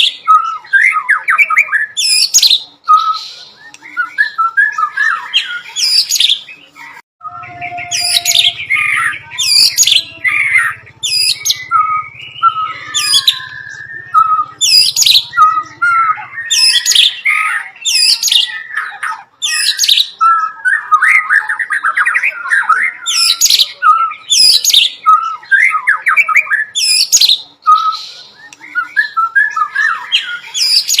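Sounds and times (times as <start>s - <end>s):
bird singing varied song: 0.0s - 31.0s.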